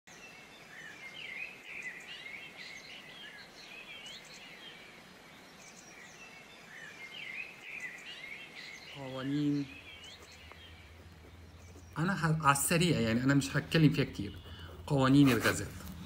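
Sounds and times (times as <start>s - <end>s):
faint background hiss: 0.1s - 16.0s
small birds chirping: 0.1s - 16.0s.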